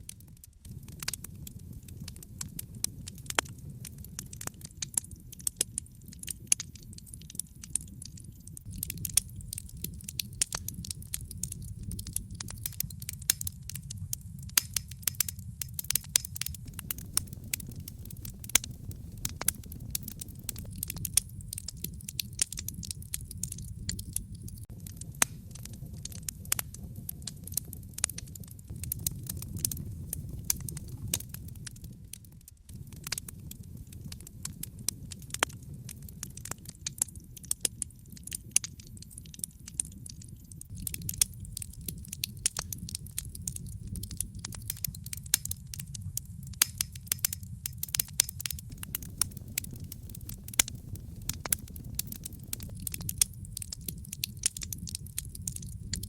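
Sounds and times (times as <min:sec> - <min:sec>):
low rumble of flames: 0:00.0 - 0:56.0
sharp pops and snaps: 0:00.0 - 0:56.0
wood fire crackling: 0:00.0 - 0:56.0.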